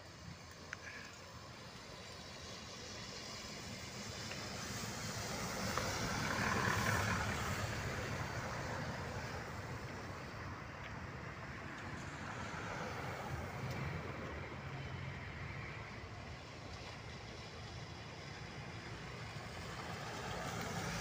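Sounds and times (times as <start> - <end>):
traffic rumble: 0.0 - 21.0
tyre hiss on wet road: 0.0 - 21.0.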